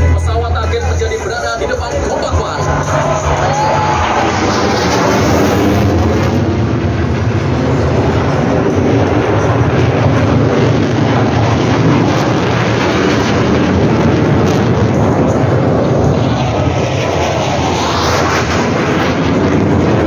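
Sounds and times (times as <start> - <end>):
fighter jet flying overhead: 0.0 - 20.0.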